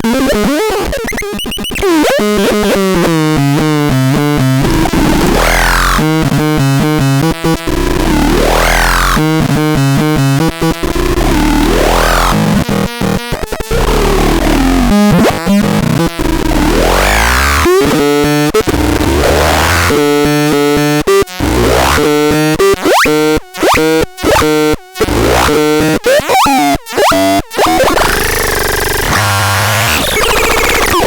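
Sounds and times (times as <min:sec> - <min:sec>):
harsh synthesizer noise: 0:04.7 - 0:31.0.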